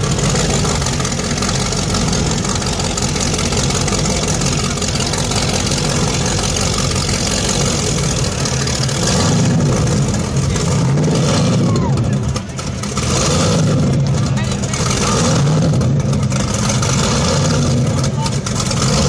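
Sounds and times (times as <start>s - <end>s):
boat engines idling: 0.0s - 19.0s.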